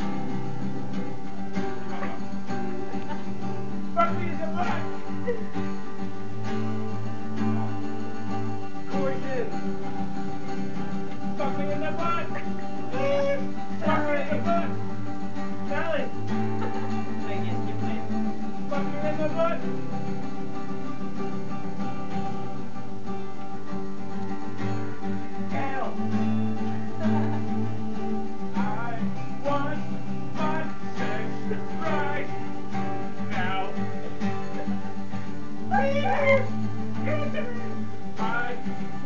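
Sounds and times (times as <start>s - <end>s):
acoustic guitar chords: 0.0s - 39.0s.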